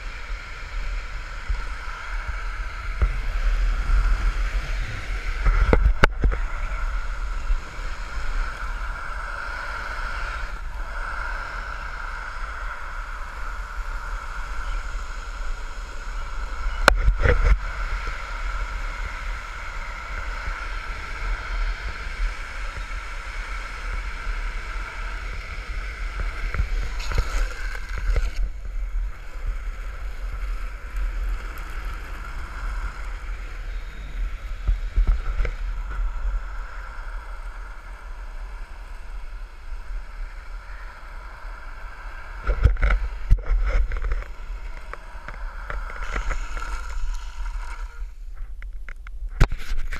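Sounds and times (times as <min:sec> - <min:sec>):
longboard wheels rolling on asphalt: 0:00.0 - 0:49.9.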